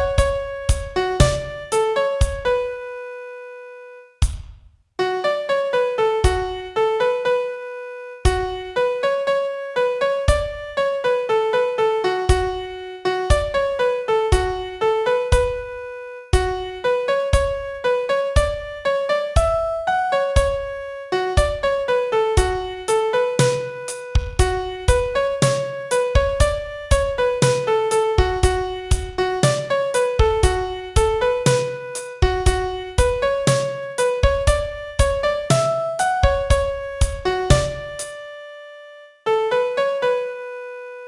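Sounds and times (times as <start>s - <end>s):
piano melody: 0.0s - 3.8s, 5.0s - 41.0s.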